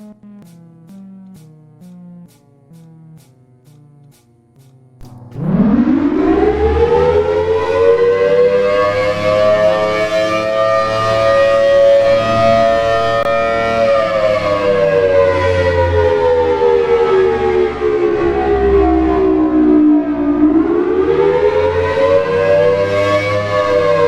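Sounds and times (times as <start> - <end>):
mechanical warning siren: 0.0 - 24.0.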